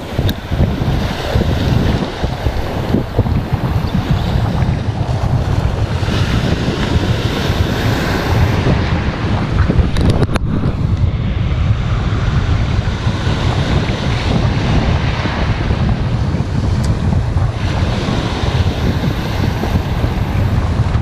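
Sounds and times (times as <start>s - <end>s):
surf breaking and washing: 0.0s - 21.0s
wind rumble on microphone: 0.0s - 21.0s.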